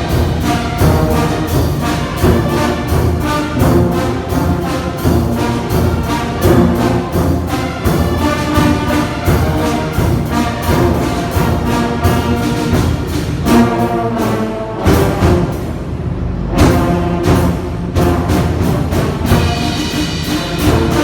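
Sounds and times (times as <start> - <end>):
drum beats: 0.0 - 14.2, 14.8 - 21.0
brass band playing: 0.0 - 21.0.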